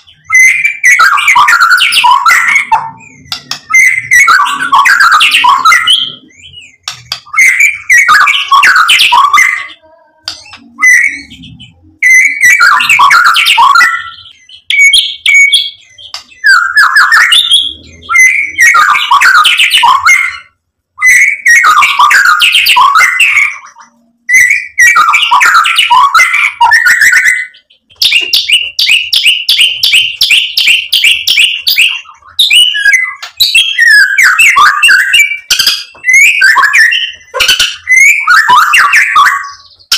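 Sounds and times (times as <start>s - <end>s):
bird trilling: 0.0s - 39.9s
songbird whistling and chattering: 0.0s - 39.9s.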